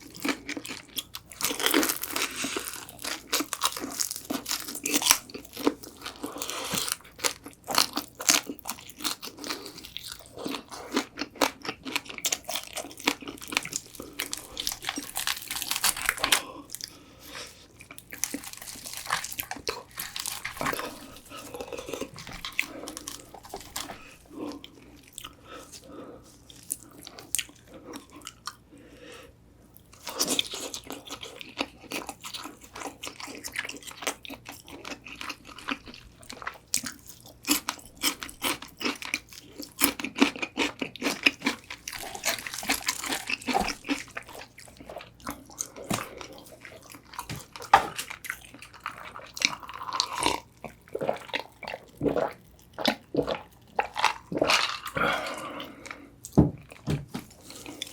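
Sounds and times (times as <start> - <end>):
crunching and chewing fried chicken: 0.0 - 57.9.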